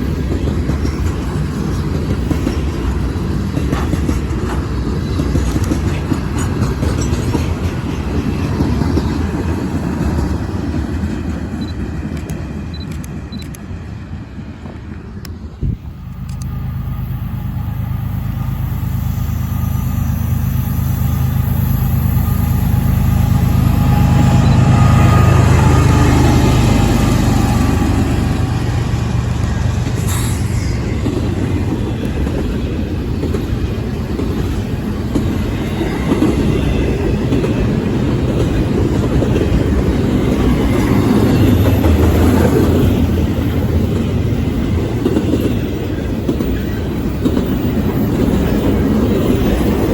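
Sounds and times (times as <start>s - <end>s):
diesel locomotive engine drone: 0.0s - 49.9s
freight cars rumbling over rails: 0.0s - 49.9s.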